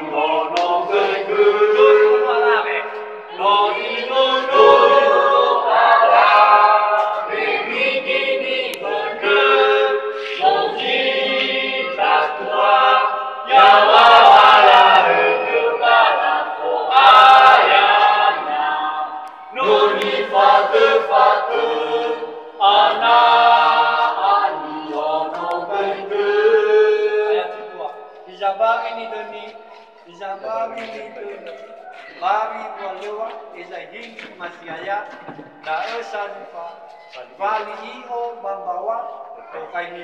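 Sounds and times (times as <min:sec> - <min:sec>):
choir singing: 0:00.0 - 0:33.7.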